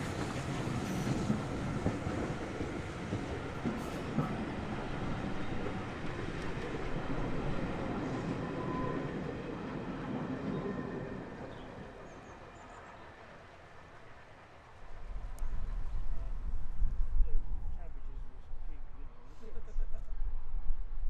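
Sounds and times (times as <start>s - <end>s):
steam train running by: 0.0s - 21.0s.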